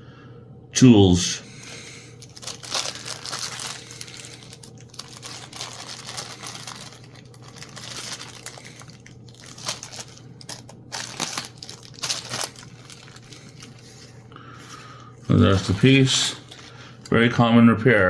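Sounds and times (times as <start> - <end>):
plastic packaging crinkling: 1.9 - 17.2.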